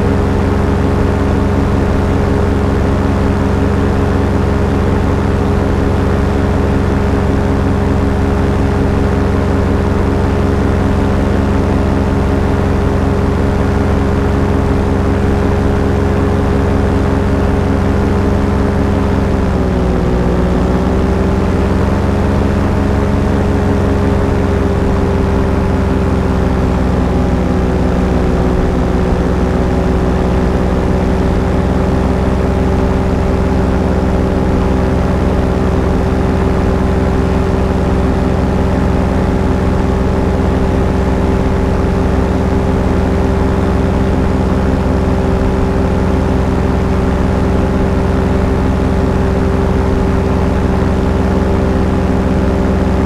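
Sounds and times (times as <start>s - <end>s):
small aircraft engine droning: 0.0s - 53.0s.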